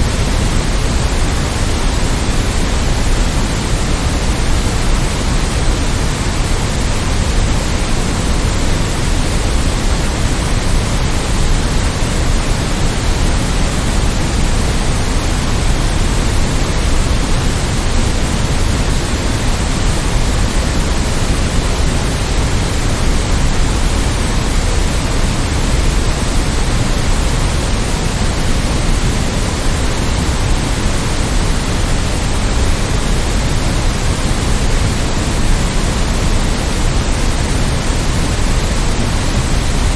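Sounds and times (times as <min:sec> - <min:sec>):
synthesized white noise: 0:00.0 - 0:39.9.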